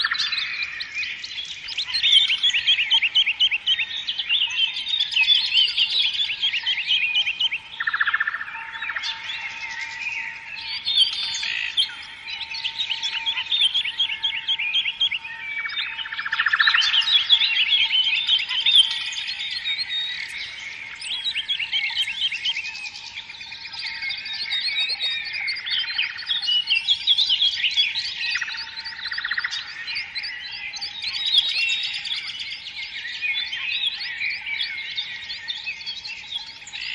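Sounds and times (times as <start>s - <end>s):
songbirds chirping and singing: 0.0s - 36.9s.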